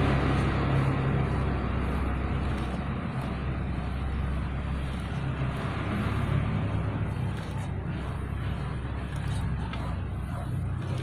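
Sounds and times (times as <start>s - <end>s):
machine running: 0.0s - 11.0s.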